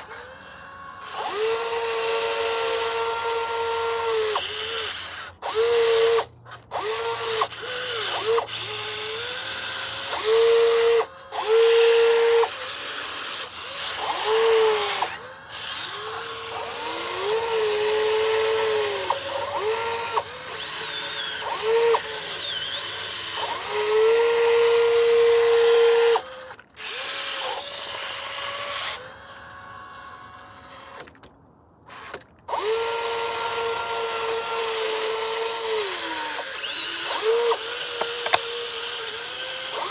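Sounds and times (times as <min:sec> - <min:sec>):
small electric motors whining: 0:00.0 - 0:31.3, 0:31.9 - 0:39.9.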